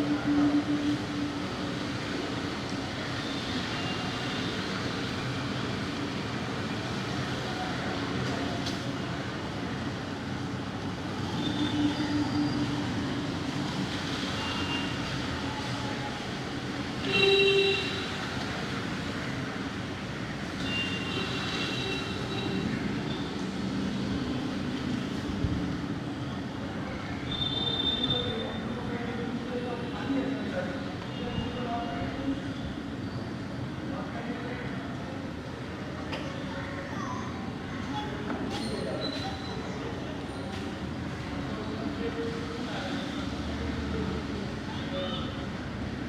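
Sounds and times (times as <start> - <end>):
traffic noise: 0.0 - 46.0.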